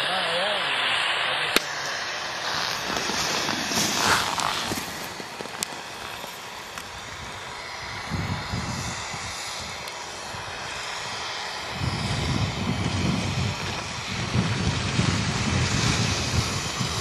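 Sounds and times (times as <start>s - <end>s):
skis scraping over hard snow: 1.8s - 17.0s.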